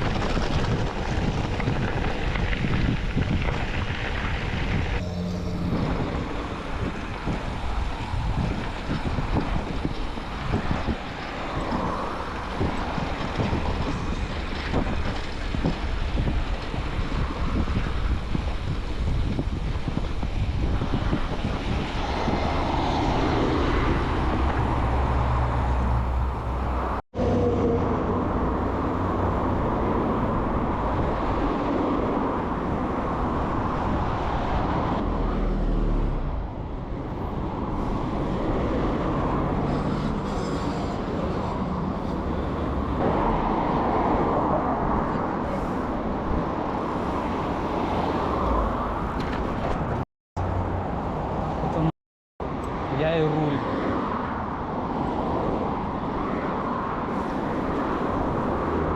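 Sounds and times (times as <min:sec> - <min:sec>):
vehicle road and wind noise: 0:00.0 - 0:58.9.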